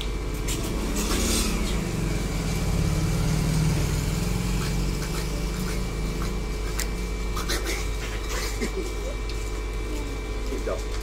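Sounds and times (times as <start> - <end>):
street background noise: 0.0 - 11.0
vehicle engine droning: 0.0 - 11.0.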